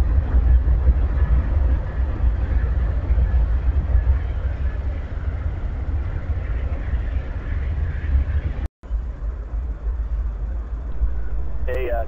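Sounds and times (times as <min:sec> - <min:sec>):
rail yard rumble: 0:00.0 - 0:12.0.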